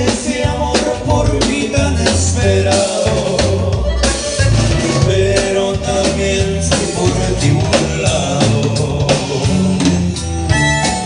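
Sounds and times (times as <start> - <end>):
man singing into microphone: 0.0 - 10.0
drum kit beats: 0.0 - 11.0
strummed acoustic guitar: 0.0 - 11.0.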